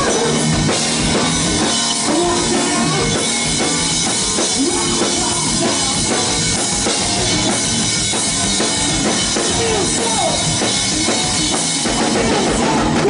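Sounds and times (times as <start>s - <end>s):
hard rock band playing: 0.0s - 13.0s.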